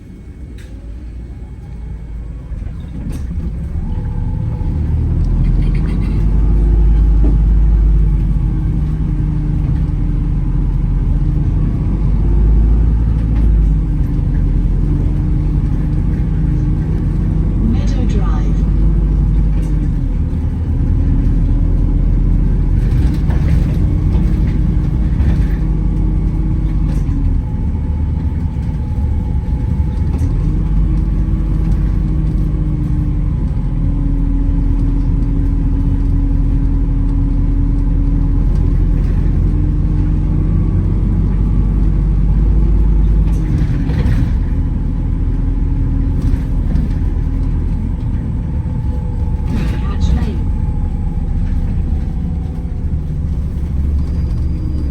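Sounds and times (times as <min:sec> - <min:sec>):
bus drivetrain and road rumble: 0:00.0 - 0:54.9
bus whine rising and falling: 0:00.0 - 0:54.9.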